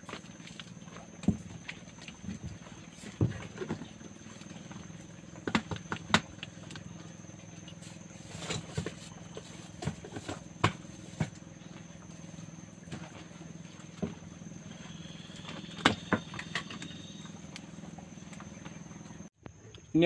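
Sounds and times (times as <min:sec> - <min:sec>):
knocks and clatters in wooden boat: 0:00.0 - 0:19.3.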